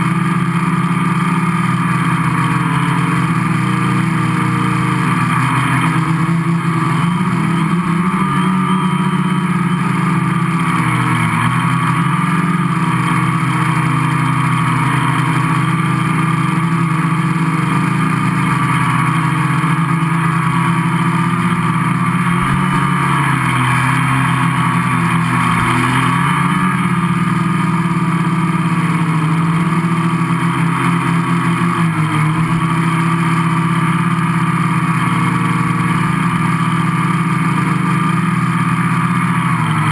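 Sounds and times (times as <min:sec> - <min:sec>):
quadcopter motors buzzing whine: 0:00.0 - 0:39.9.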